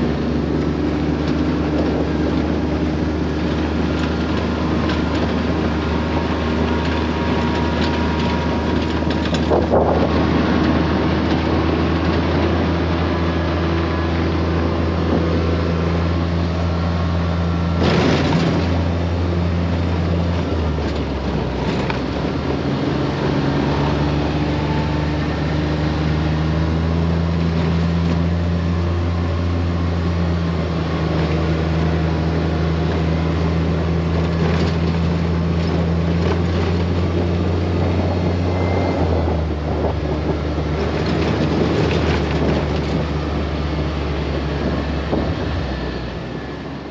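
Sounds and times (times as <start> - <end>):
utv engine running: 0.0 - 46.9.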